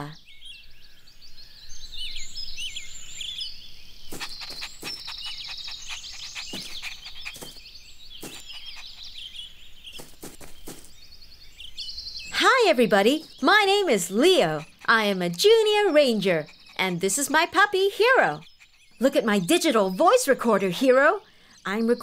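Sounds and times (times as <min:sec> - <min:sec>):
small birds chirping and twittering: 0:00.0 - 0:22.0.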